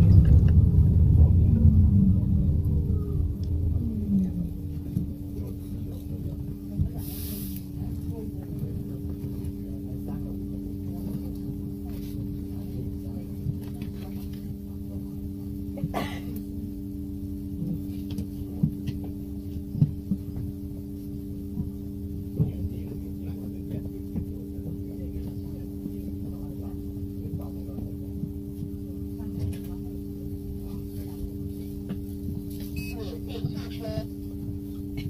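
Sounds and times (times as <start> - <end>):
electric bus hum: 0.0 - 35.0.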